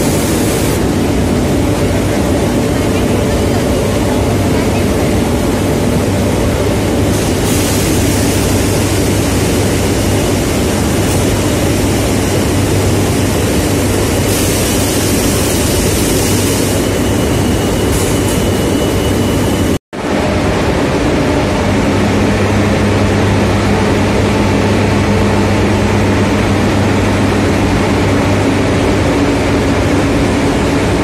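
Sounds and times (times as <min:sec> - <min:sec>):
industrial machinery rumble and hiss: 0:00.0 - 0:31.0.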